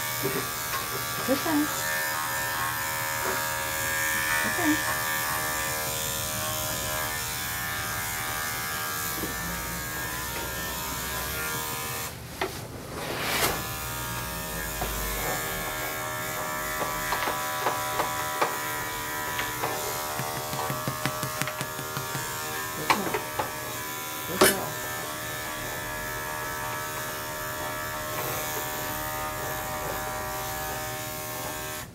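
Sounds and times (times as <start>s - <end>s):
electric clippers humming: 0.0s - 12.2s, 13.6s - 31.9s.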